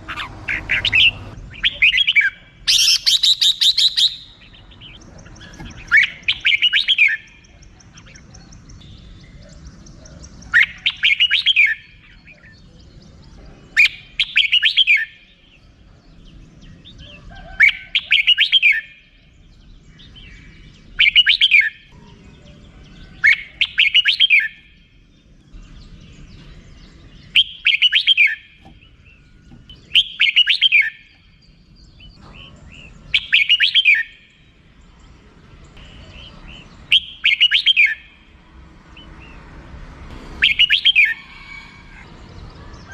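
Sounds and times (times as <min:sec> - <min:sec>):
bird call: 0:00.0 - 0:15.8, 0:16.6 - 0:34.6, 0:35.8 - 0:38.2, 0:40.3 - 0:42.9.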